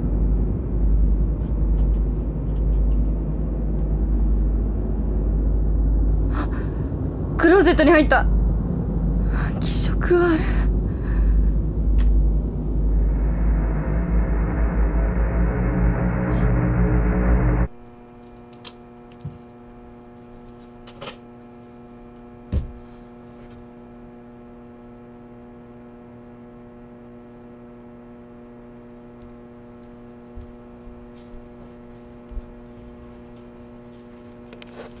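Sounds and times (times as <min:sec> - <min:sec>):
steady electrical hum: 0:00.0 - 0:35.0.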